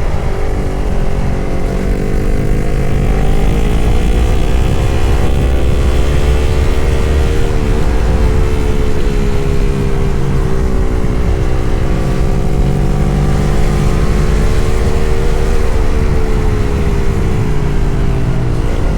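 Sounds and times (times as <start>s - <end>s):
motorcycle engine cruising: 0.0s - 18.9s.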